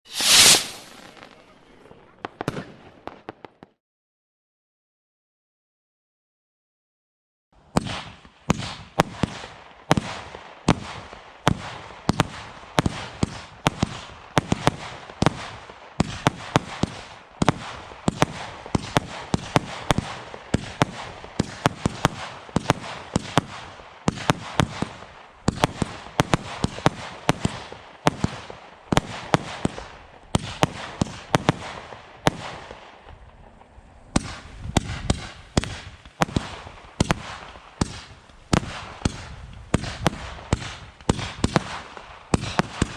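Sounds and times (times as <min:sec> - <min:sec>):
fireworks barrage firing: 0:00.1 - 0:03.7, 0:07.8 - 0:42.9.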